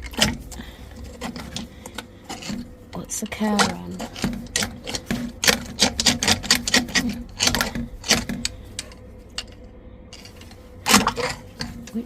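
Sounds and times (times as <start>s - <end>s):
drain rods knocking and scraping: 0.0s - 12.0s.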